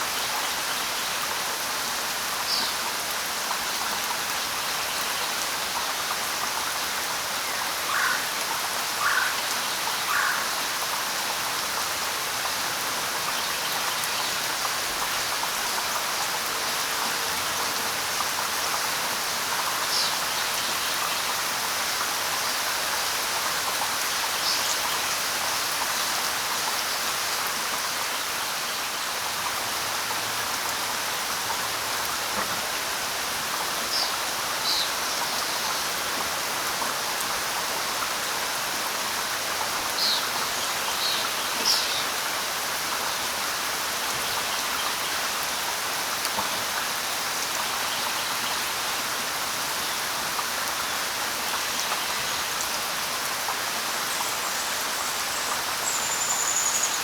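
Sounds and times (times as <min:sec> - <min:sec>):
light rain: 0:00.0 - 0:57.0.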